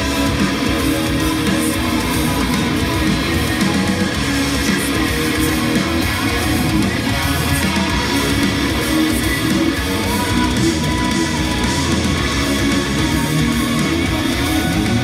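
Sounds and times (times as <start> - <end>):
heavy metal electric guitar: 0.0 - 15.0.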